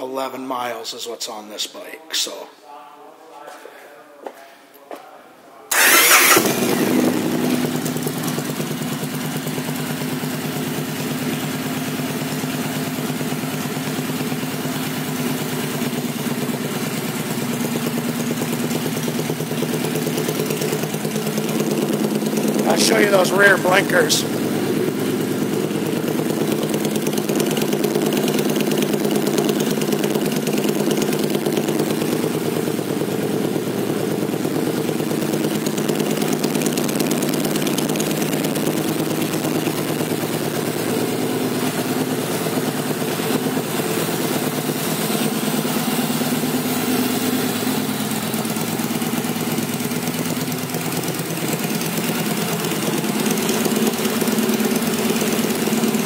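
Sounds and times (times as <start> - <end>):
motorcycle engine idling: 5.7 - 56.0.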